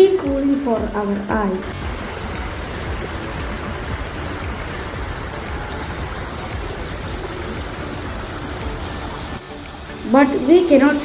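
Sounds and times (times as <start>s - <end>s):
waterfall rushing and splashing: 0.0s - 11.0s.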